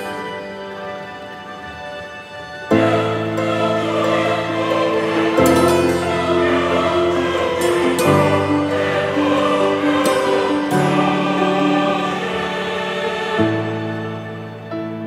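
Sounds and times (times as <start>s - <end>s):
slow held chords music: 0.0s - 15.0s.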